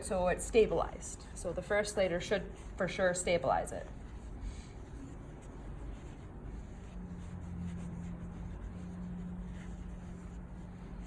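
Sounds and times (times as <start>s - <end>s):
faint low hum: 0.0s - 11.0s
scratchy rubbing of cast padding: 0.0s - 11.0s.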